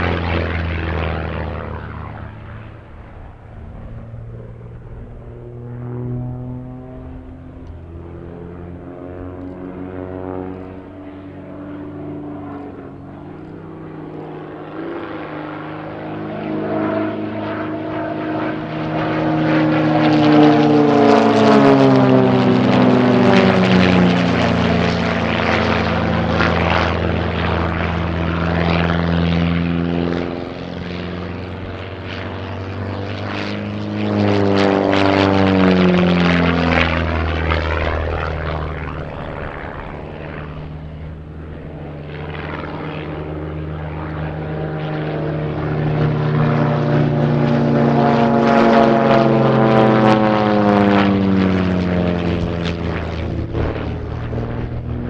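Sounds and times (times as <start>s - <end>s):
propeller plane engines droning: 0.0s - 55.0s.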